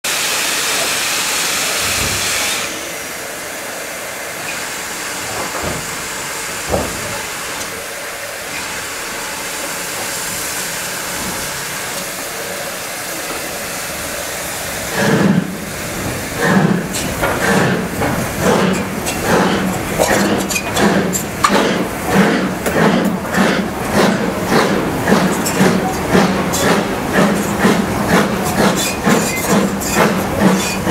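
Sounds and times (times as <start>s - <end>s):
steam hissing: 0.1s - 30.9s
steam locomotive exhaust beats: 4.4s - 30.9s.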